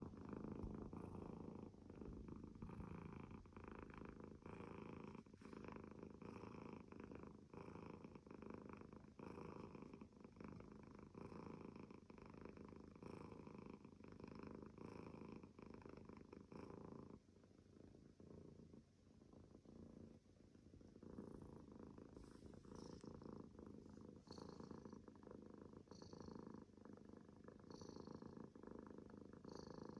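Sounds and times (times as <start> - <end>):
cat purring: 0.0 - 29.9.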